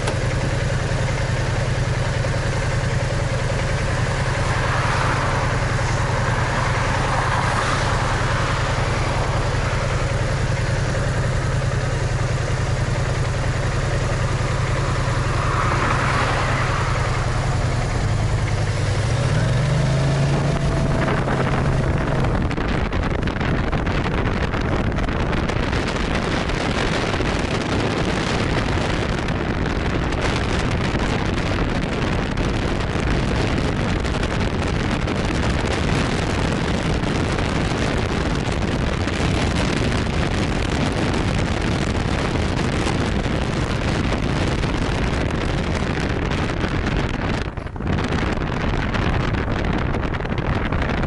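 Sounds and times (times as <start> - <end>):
motorcycle engine hum: 0.0 - 51.0
tyres on road: 0.0 - 51.0
wind rush on microphone: 0.0 - 51.0.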